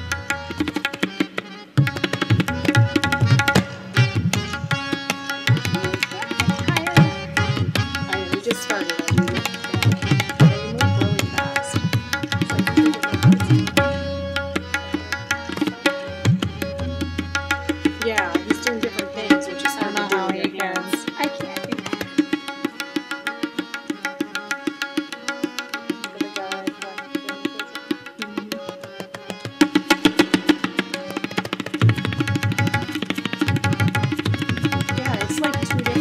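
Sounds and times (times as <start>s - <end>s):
held melodic accompaniment: 0.0s - 36.0s
tabla playing fast: 0.0s - 36.0s.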